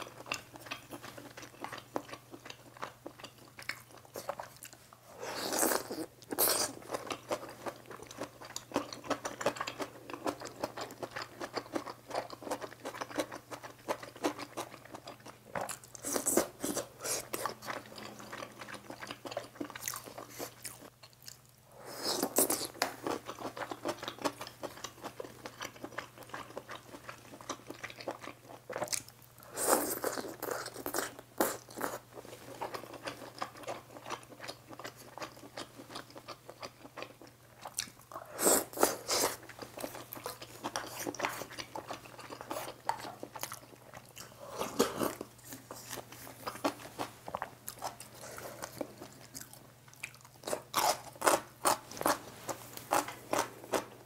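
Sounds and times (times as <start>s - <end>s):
chewing and crunchy mouth noises: 0.0s - 54.0s.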